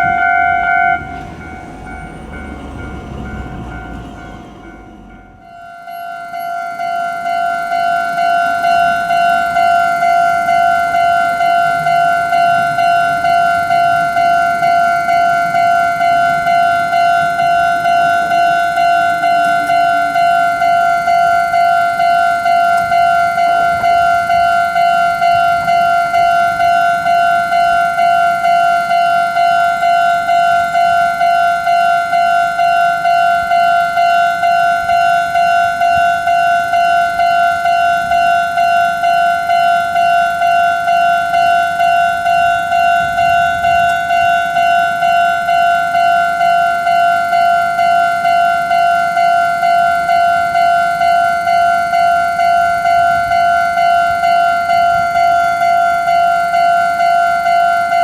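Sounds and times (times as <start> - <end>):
level crossing warning bell: 0.0 - 58.0.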